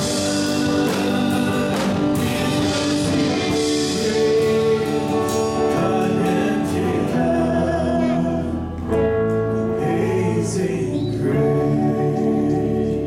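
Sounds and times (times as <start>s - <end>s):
drums: 0.0s - 10.6s
electric and acoustic guitars: 0.0s - 13.0s
keyboard: 0.0s - 13.0s
man singing: 0.0s - 13.0s.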